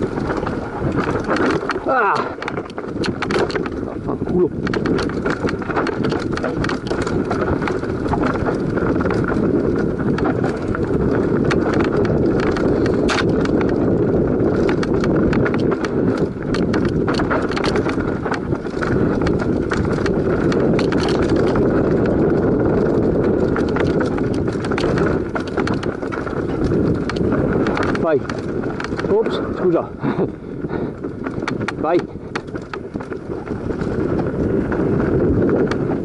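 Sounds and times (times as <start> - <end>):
rattling clicks of stones and chain: 0.0 - 34.3
bike tyres crunching over gravel: 0.0 - 36.0.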